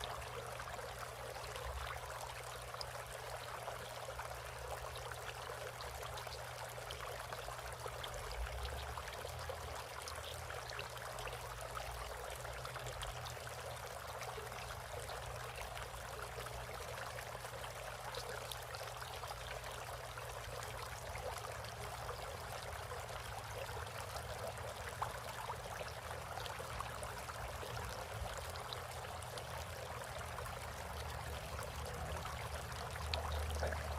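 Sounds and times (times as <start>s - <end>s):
water trickling and splashing: 0.0s - 33.9s.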